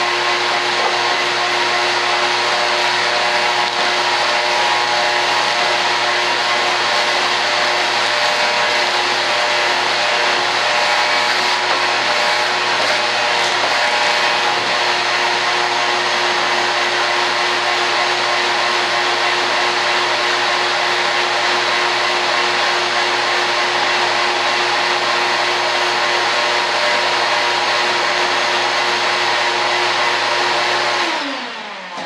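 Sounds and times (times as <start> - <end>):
shop vacuum running: 0.0 - 32.0.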